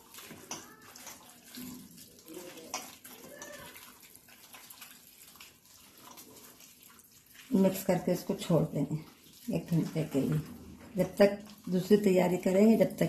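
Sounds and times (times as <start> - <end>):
wet squishing of kneaded chicken: 0.0 - 13.0.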